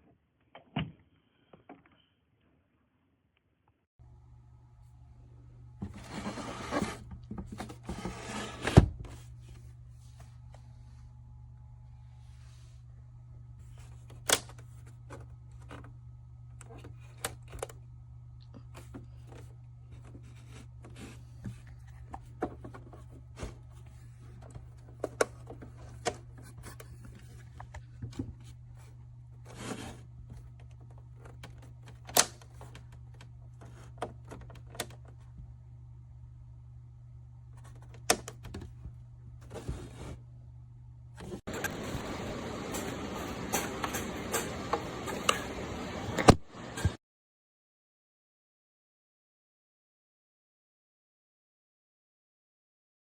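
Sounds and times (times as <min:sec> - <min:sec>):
steady low hum: 0:04.0 - 0:47.0.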